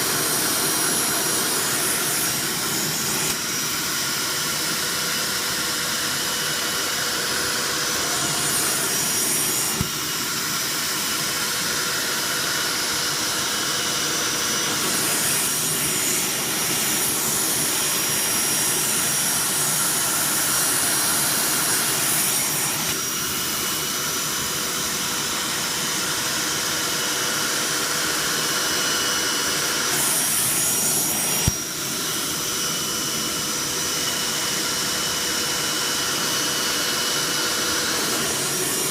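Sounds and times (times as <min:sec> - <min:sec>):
carpet cleaner vacuum motor whining: 0:00.0 - 0:38.9.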